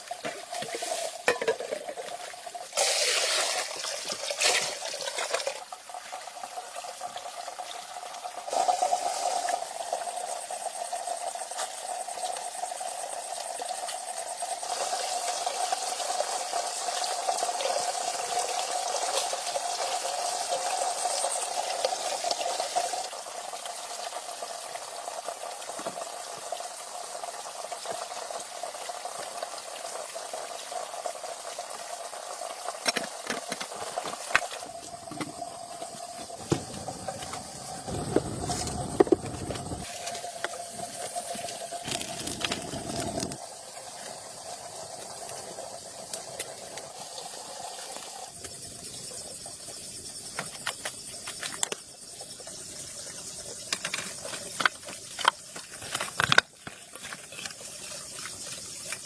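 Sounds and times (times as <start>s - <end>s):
water running: 0.0s - 10.8s, 14.1s - 59.0s.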